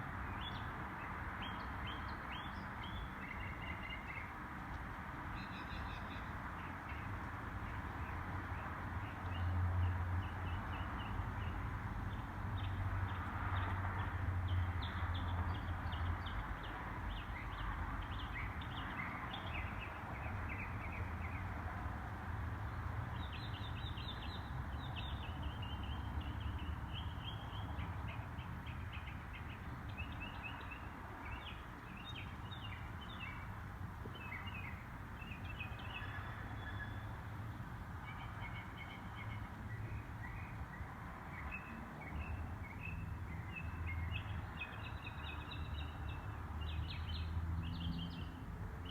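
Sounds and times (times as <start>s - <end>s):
songbirds chirping and trilling: 0.1s - 48.9s.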